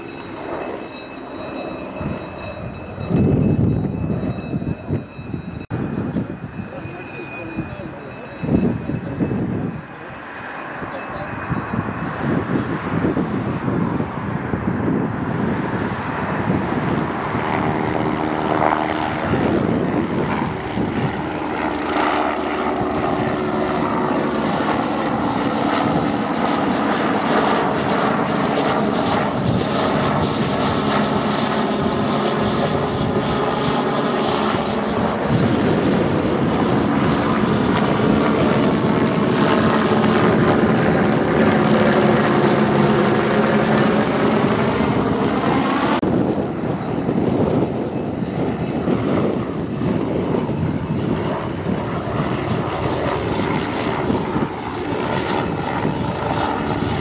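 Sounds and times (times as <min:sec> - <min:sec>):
helicopter flying overhead: 0:00.0 - 0:57.0
high turbine whine: 0:00.0 - 0:57.0.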